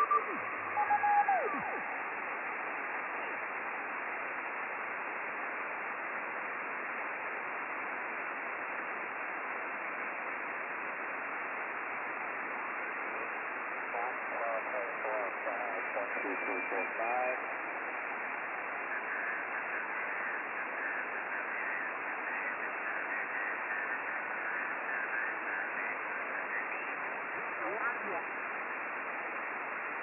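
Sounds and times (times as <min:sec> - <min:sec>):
radio hiss: 0:00.0 - 0:30.0.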